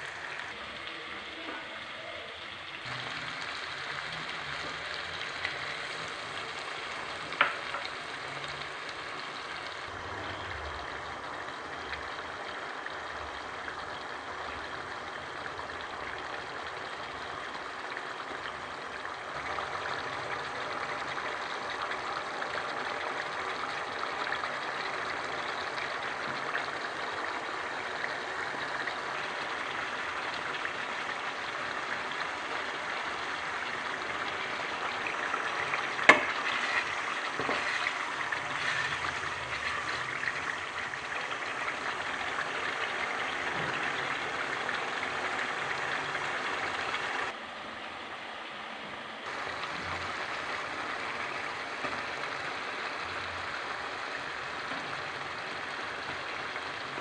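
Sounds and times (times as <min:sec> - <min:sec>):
food sizzling in a pan: 0:00.0 - 0:47.4, 0:49.2 - 0:57.0.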